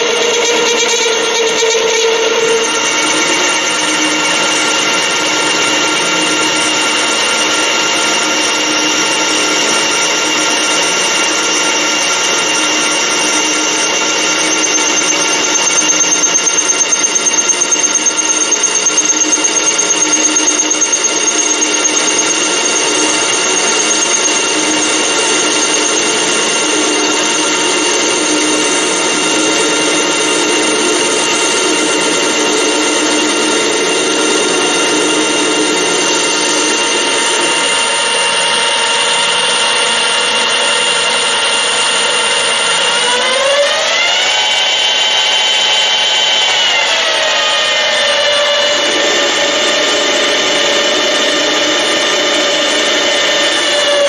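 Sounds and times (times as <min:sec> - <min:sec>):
metal lathe cutting whine: 0:00.0 - 0:54.0.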